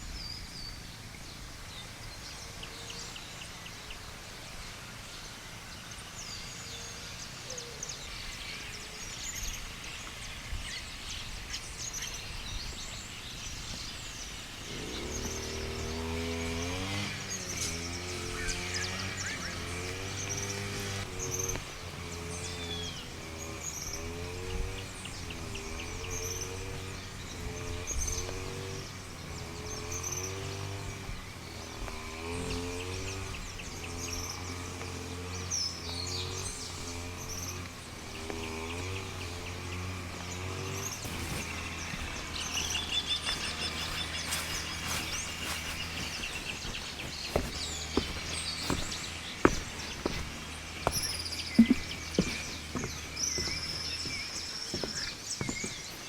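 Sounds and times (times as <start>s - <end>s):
birds chirping and calling: 6.3s - 56.0s.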